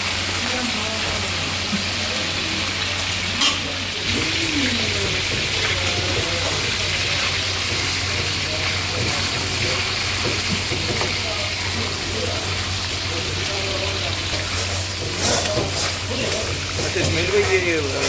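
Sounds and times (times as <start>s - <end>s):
chicken deep-frying in oil: 0.0s - 18.0s
slotted spoon stirring oil: 3.4s - 18.0s.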